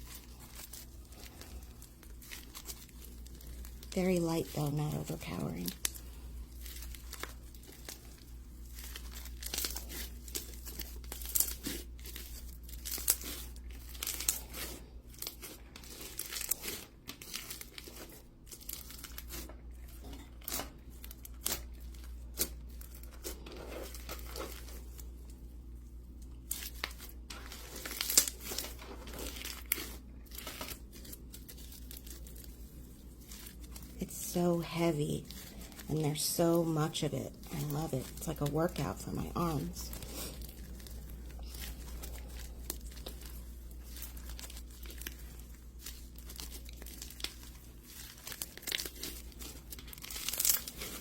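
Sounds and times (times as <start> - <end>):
slime crackling and popping: 0.0 - 25.4, 26.1 - 51.0.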